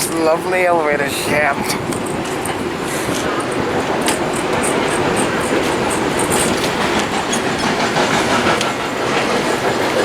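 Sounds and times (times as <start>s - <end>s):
train rumbling past: 0.0s - 10.0s
wheels clicking over rail joints: 0.0s - 10.0s.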